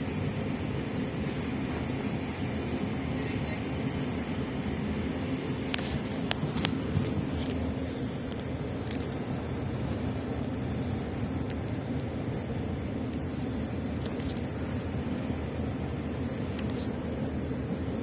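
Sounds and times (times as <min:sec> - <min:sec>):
low electric drive hum: 0:00.0 - 0:18.0
train wheels rumbling on rail: 0:00.0 - 0:18.0.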